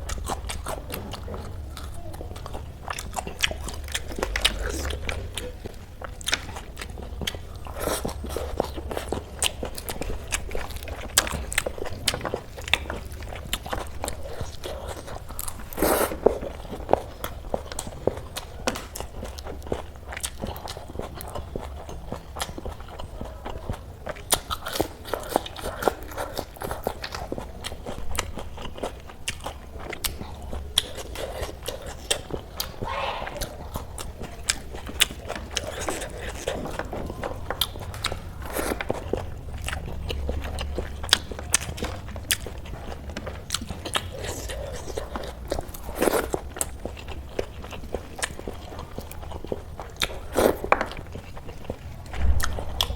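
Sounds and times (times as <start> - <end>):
biting and chewing crunches: 0.0 - 52.9.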